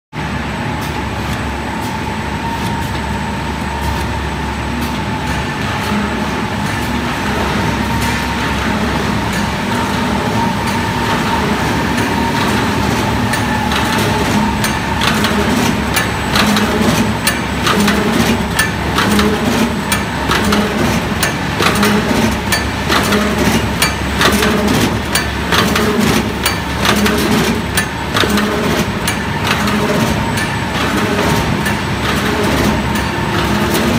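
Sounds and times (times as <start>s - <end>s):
machine hum with high whine: 0.1s - 33.9s
rapid machine clacking: 5.2s - 33.9s.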